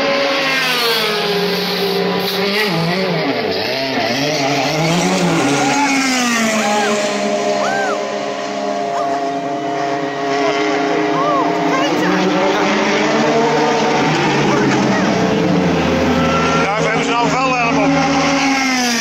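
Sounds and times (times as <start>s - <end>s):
other engines running: 0.0s - 19.0s
race car engine revving: 0.0s - 19.0s.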